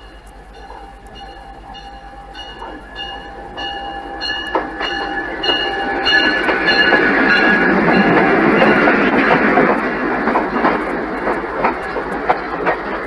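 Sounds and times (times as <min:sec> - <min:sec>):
diesel locomotive passing: 0:00.0 - 0:13.0
locomotive bell ringing: 0:00.0 - 0:13.0
train wheel noise: 0:00.0 - 0:13.0.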